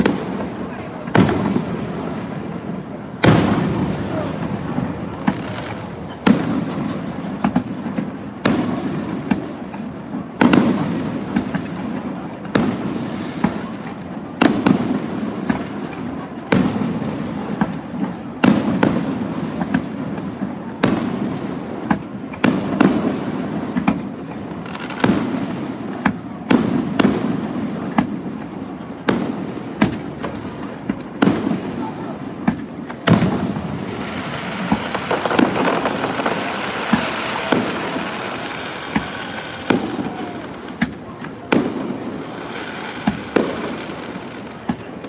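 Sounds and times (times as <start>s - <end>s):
fireworks bursting with bangs: 0.0s - 45.0s
small fireworks pops: 0.0s - 45.0s.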